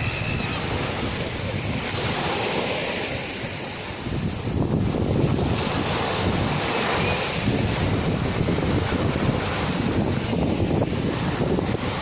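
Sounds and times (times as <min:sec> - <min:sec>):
sea waves surf: 0:00.0 - 0:12.0
wind buffeting microphone: 0:00.0 - 0:12.0.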